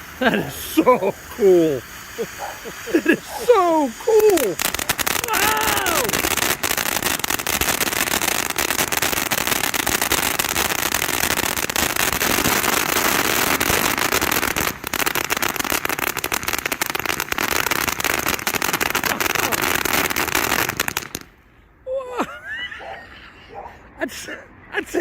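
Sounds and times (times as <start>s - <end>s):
firework fountain crackling: 0.0s - 21.5s.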